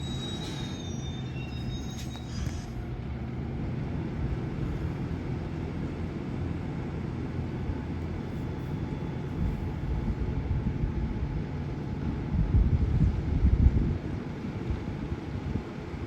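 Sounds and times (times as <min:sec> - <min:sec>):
garbage truck diesel engine rumbling: 0:00.0 - 0:16.0.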